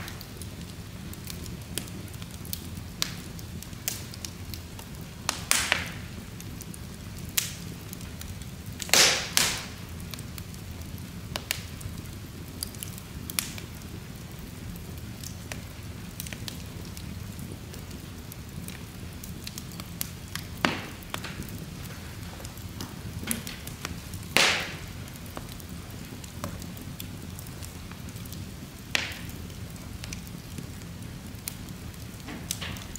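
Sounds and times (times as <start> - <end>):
fire crackling and popping: 0.0 - 32.9
low rumble of flames: 0.0 - 32.9.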